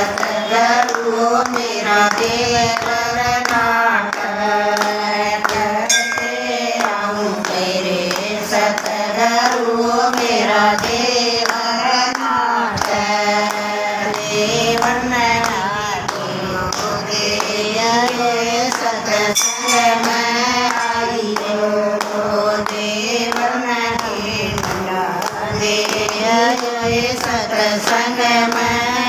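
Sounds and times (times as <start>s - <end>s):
hand claps: 0.0s - 29.0s
women singing together: 0.0s - 29.0s.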